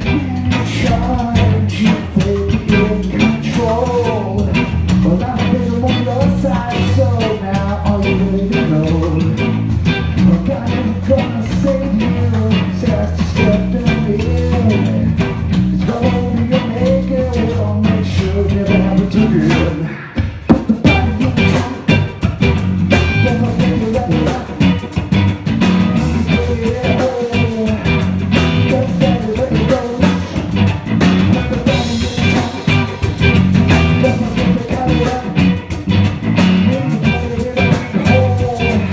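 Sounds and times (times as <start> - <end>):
bass guitar: 0.0 - 38.9
drum kit: 0.0 - 38.9
electric guitar: 0.0 - 38.9.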